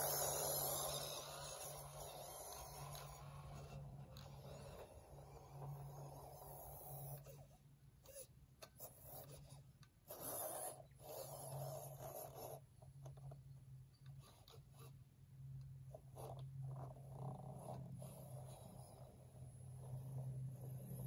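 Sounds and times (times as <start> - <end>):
faint electric motor hum: 0.0 - 21.0.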